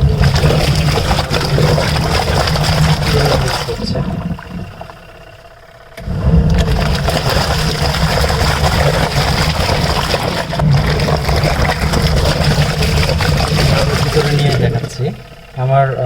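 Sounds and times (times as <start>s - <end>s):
clothes sloshing in water: 0.0s - 5.3s, 6.1s - 15.5s
washing machine motor hum: 0.0s - 16.0s.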